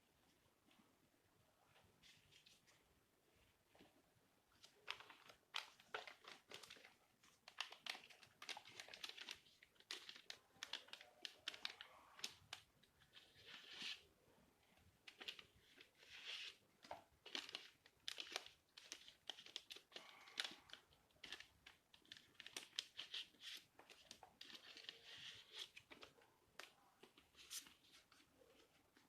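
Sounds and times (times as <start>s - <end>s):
cards and packaging rustling: 4.6s - 14.0s, 15.0s - 29.0s.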